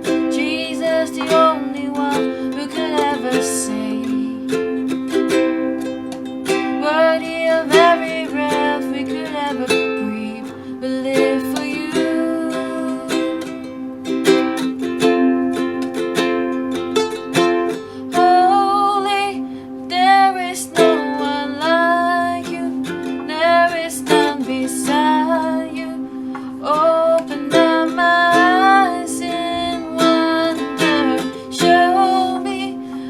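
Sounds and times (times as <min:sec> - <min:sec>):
person singing long wavering notes: 0:00.0 - 0:33.0
strummed acoustic string instrument: 0:00.0 - 0:33.0.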